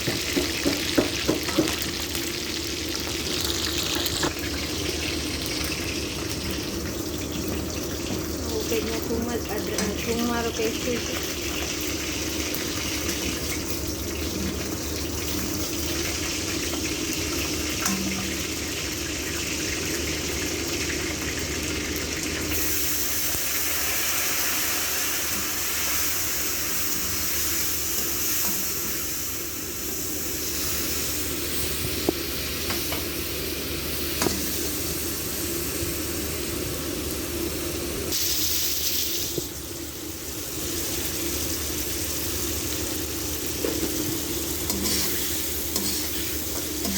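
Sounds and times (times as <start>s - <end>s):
food sizzling in hot oil: 0.0s - 46.9s.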